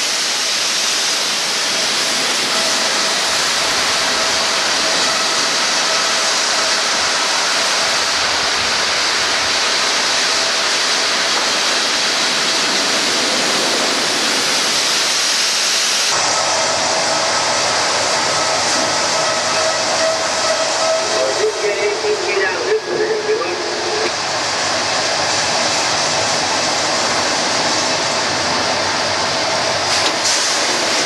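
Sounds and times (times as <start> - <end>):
sawmill machinery din: 0.0 - 15.0, 15.8 - 31.0.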